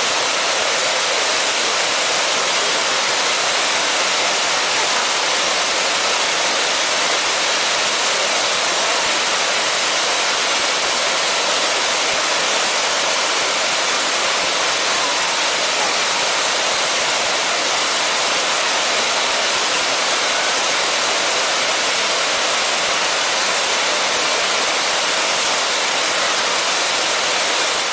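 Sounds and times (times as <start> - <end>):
waterfall pouring into pool: 0.0 - 27.9.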